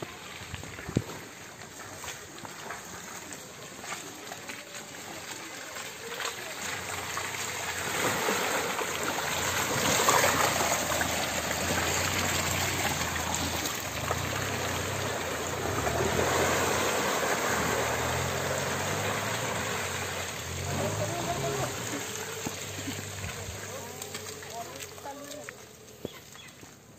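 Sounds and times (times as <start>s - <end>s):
car engine running low: 0.0s - 26.9s
tyres splashing through muddy water: 0.0s - 26.9s.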